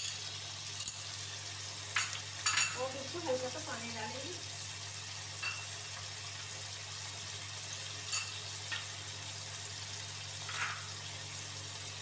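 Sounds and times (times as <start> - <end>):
food sizzling and bubbling in wok: 0.0 - 12.0.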